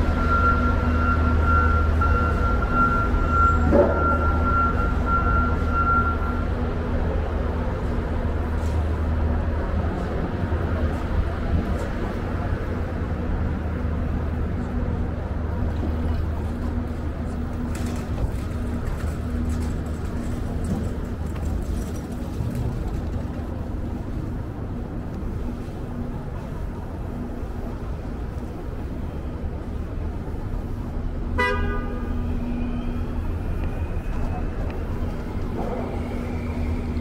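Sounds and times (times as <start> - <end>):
traffic noise: 0.0 - 37.0.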